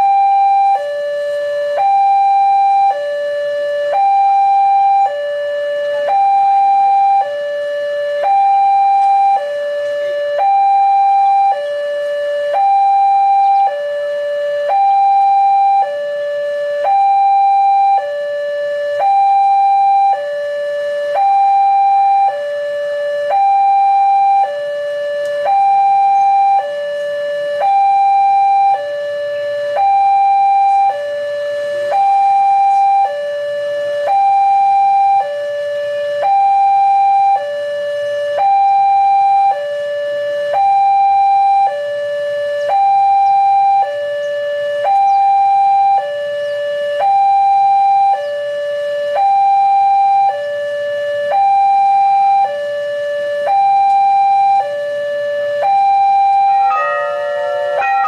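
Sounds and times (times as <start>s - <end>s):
level crossing alarm two-tone: 0.0s - 58.0s.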